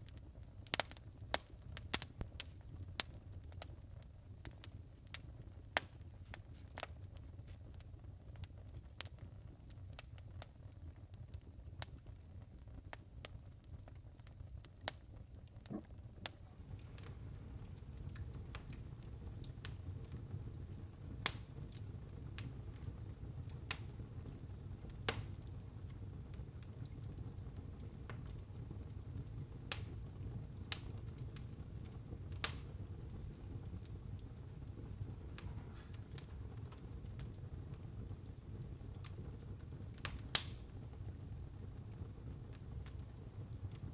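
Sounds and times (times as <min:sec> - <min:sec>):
fire crackling and popping: 0:00.0 - 0:43.9
low rumble of fire: 0:00.0 - 0:43.9.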